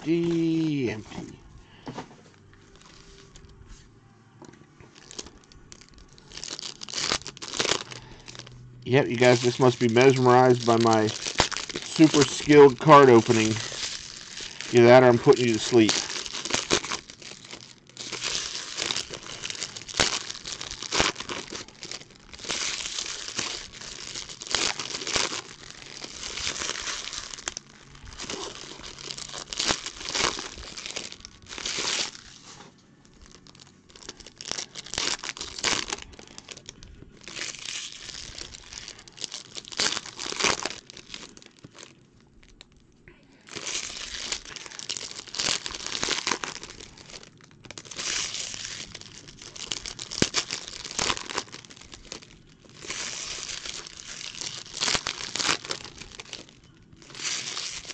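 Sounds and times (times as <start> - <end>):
foil wrappers crinkling and tearing: 0.0 - 1.8, 2.4 - 3.6, 4.8 - 57.9.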